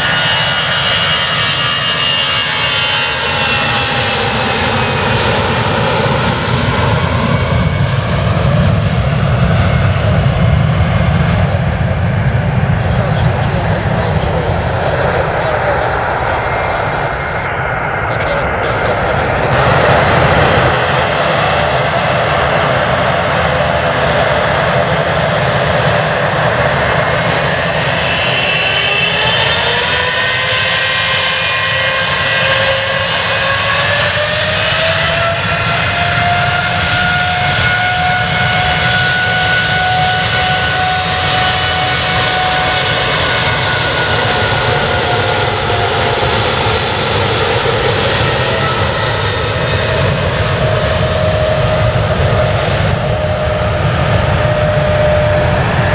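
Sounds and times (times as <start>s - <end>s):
jet engine whine rising: 0.0s - 55.9s
jet engines roaring: 0.0s - 55.9s.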